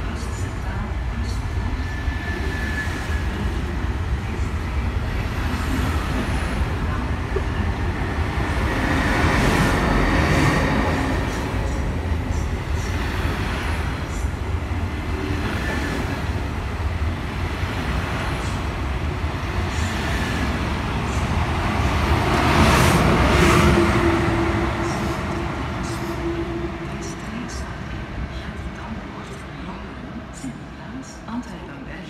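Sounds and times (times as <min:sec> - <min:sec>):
train wheels rumbling on rails: 0:00.0 - 0:30.5
electric locomotive hum: 0:00.0 - 0:31.0.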